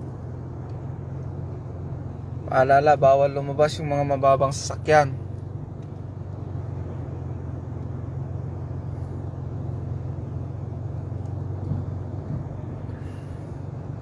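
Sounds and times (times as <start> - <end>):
car engine drone: 0.0 - 14.0
road noise hiss: 0.0 - 14.0.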